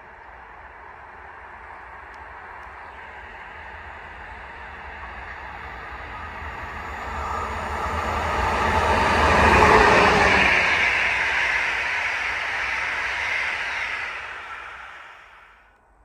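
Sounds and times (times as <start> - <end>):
train passing rumble: 0.0 - 16.0.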